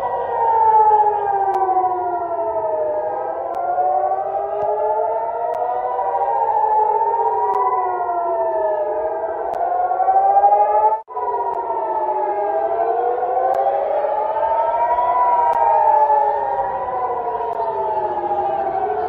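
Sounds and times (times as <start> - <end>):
air-raid sirens wailing: 0.0 - 19.0.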